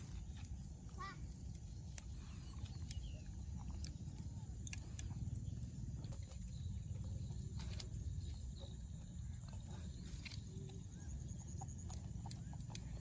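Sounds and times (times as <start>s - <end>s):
coconut husk tearing crackles: 0.0s - 13.0s
steady low rumble: 0.0s - 13.0s.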